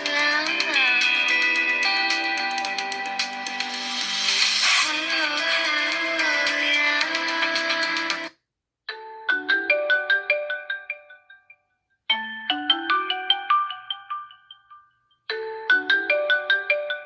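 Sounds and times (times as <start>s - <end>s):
phone ringtone music: 0.0s - 8.3s, 8.9s - 17.0s
ringtone melody of struck notes: 0.0s - 8.3s, 8.9s - 17.0s.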